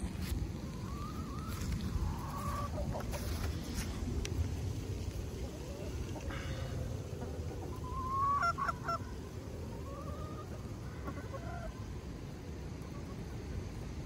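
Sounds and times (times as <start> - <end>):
hens calling: 0.0 - 4.0, 5.2 - 13.5
hens clucking: 0.0 - 13.8.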